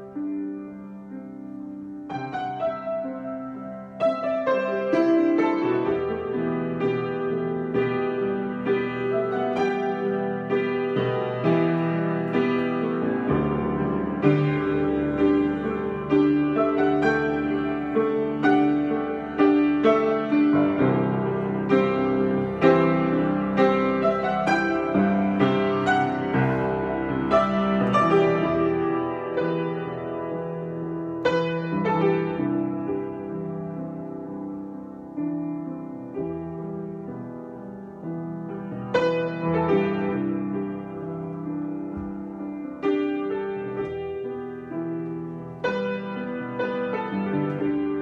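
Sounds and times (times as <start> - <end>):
solo piano: 0.0 - 48.0.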